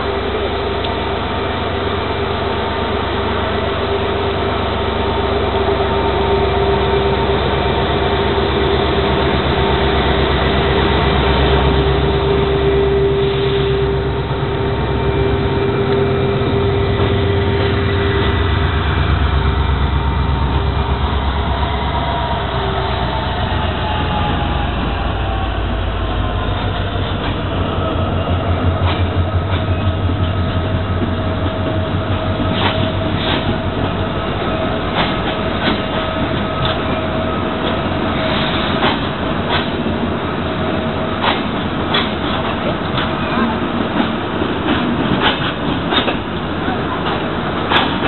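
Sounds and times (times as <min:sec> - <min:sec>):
diesel locomotive engine: 0:00.0 - 0:48.0.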